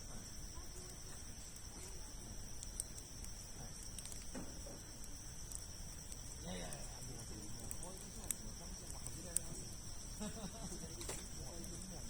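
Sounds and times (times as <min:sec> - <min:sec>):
campfire logs crackling: 0:00.0 - 0:12.0
fire popping: 0:00.0 - 0:12.0
high-pitched insect drone: 0:00.0 - 0:12.0.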